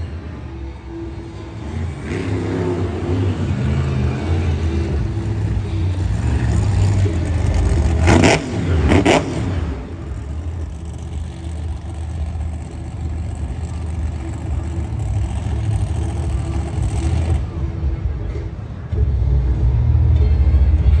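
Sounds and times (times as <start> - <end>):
truck engines idling: 0.0 - 21.0
truck engines revving: 0.0 - 21.0.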